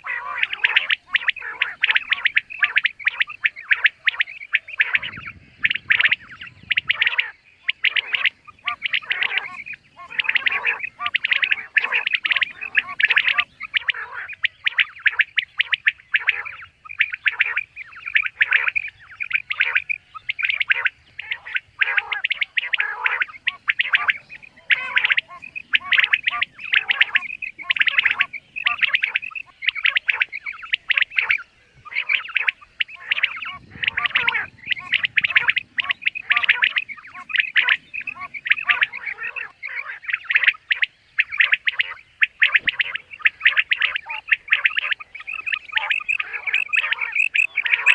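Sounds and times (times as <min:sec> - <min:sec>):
quail calling: 0:00.0 - 0:47.9.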